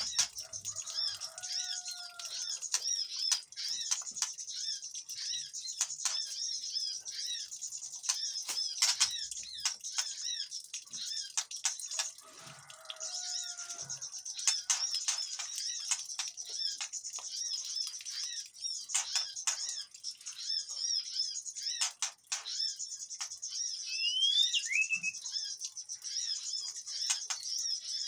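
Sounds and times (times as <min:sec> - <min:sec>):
birds chirping in alarm: 0:00.0 - 0:28.0
sharp bird clicking calls: 0:00.0 - 0:28.0.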